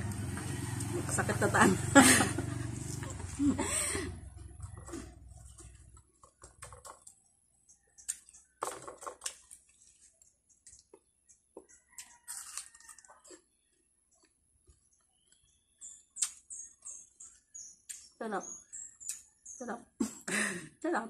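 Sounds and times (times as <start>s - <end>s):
biting and chewing fruit: 2.3s - 19.6s.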